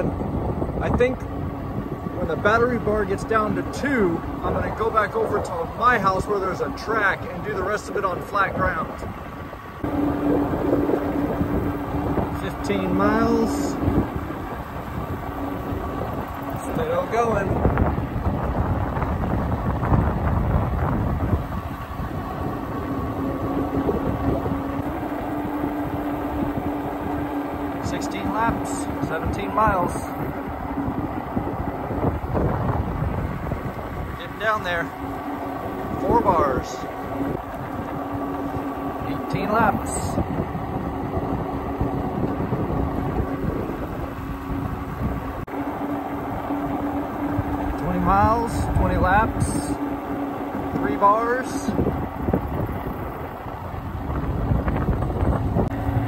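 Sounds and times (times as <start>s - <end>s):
electric motor whine: 0.0s - 56.0s
road noise: 0.0s - 56.0s
wind buffeting microphone: 0.0s - 56.0s.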